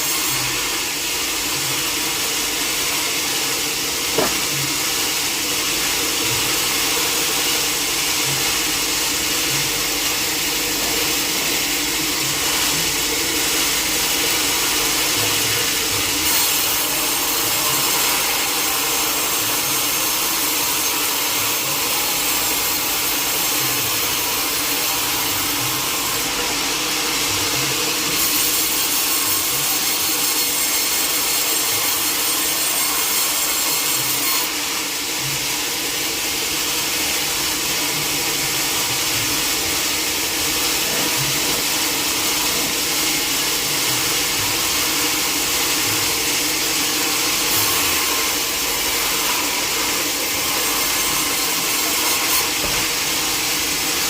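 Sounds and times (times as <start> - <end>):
saw rasping through log: 0.0 - 54.0.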